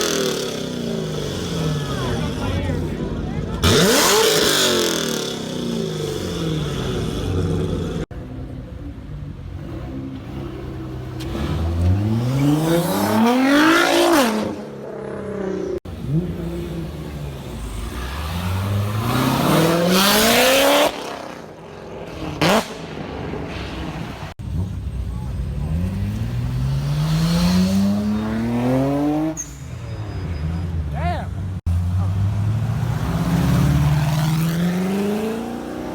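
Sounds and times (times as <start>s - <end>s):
cars accelerating hard: 0.0s - 8.1s, 9.6s - 23.0s, 23.7s - 29.4s, 31.5s - 35.9s.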